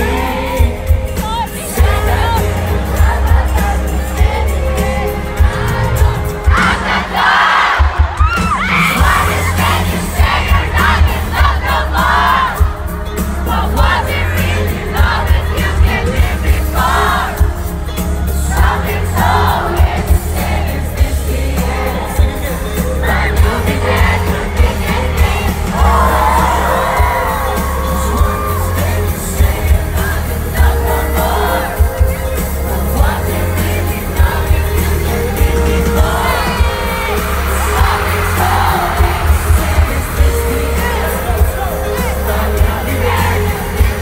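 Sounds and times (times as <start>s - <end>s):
crowd singing along: 0.0s - 44.0s
live pop band: 0.0s - 44.0s
man singing lead vocal: 0.0s - 44.0s.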